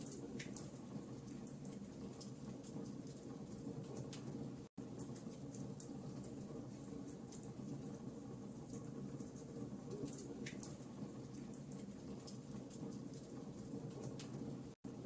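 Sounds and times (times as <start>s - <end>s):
low steady background noise: 0.0s - 15.0s
wood fire crackling: 0.0s - 15.0s.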